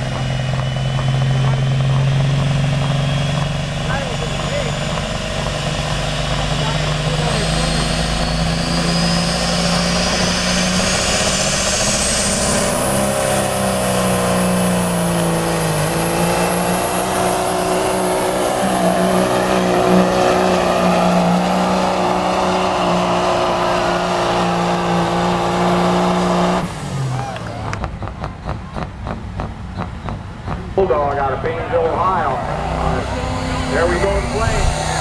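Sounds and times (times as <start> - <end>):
high whine: 0.0 - 25.2, 29.7 - 35.0
diesel truck engine under load: 0.0 - 35.0.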